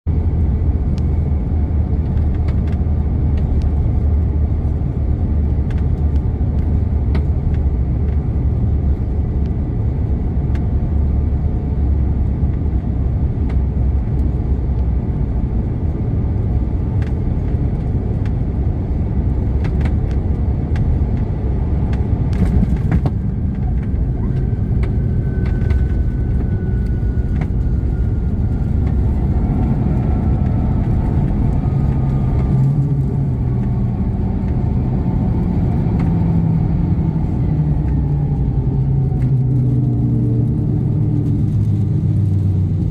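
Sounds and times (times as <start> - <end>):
jet engine whine falling: 0.1 - 42.9
steady low rumble: 0.1 - 42.9.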